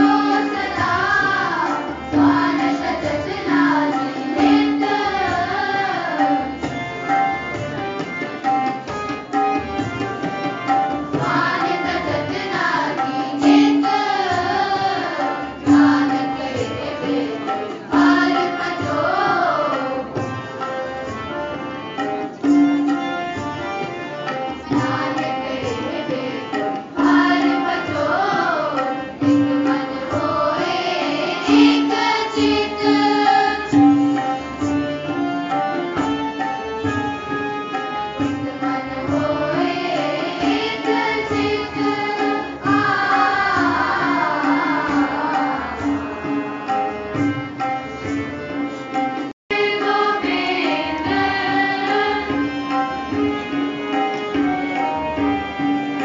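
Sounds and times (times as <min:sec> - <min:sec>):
harmonium: 0:00.0 - 0:56.0
tabla rhythm: 0:00.0 - 0:56.0.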